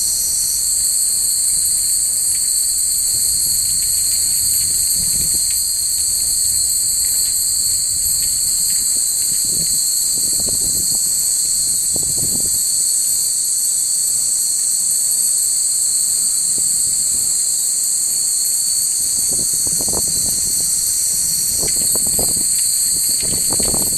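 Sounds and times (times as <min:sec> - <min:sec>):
wind rumble on microphone: 0:00.0 - 0:13.3, 0:16.5 - 0:23.9
insects trilling: 0:00.0 - 0:23.9.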